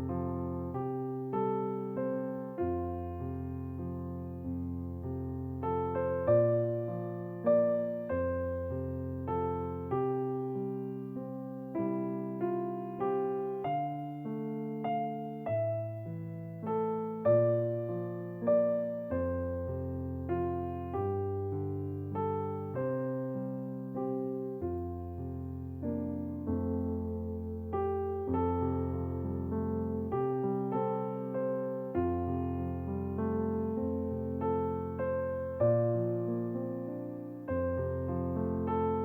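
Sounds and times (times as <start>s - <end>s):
slow gentle solo piano: 0.0s - 39.0s.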